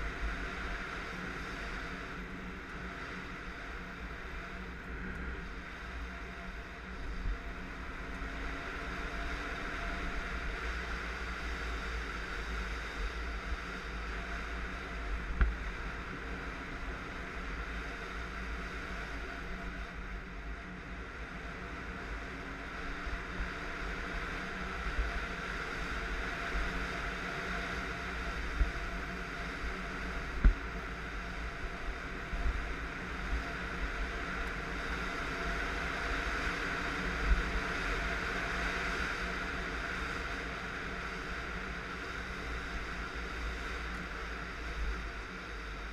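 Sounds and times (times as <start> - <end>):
motorcycle engine drone: 0.0 - 45.9.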